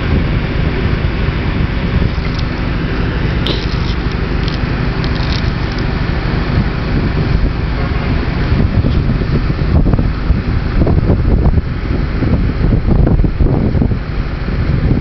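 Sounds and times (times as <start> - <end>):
buggy engine running: 0.0 - 15.0.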